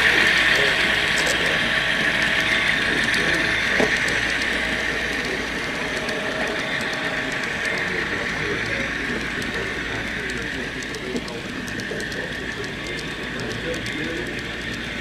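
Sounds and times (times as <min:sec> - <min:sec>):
model train running rush: 0:00.0 - 0:15.0
model train wheels clicking: 0:00.0 - 0:15.0.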